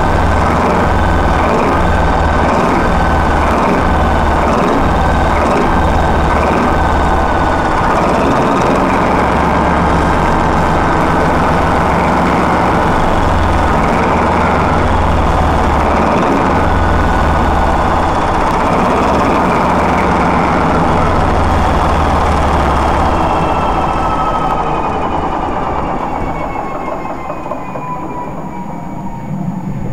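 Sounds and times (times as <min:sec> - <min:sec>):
diesel engine throbbing: 0:00.0 - 0:29.9
faint whine: 0:00.0 - 0:29.9.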